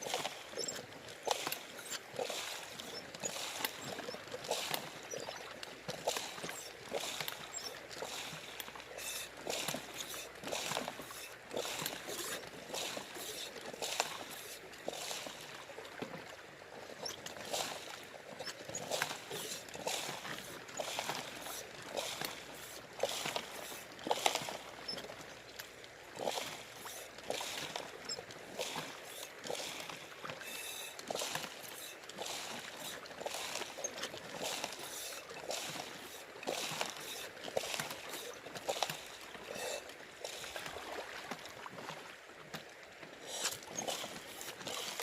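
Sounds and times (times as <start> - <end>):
water sloshing and splashing: 0.0 - 45.0.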